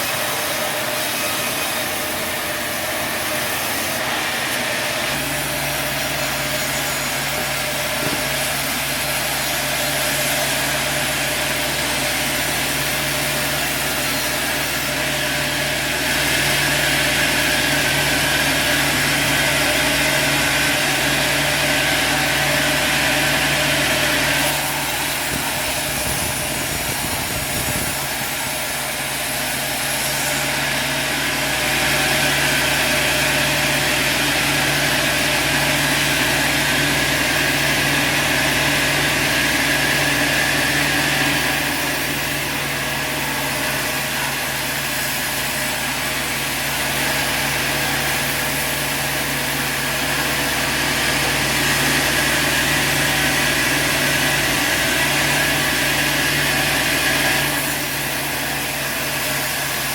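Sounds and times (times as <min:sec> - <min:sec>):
sawmill saw and motor humming: 0:00.0 - 0:59.9.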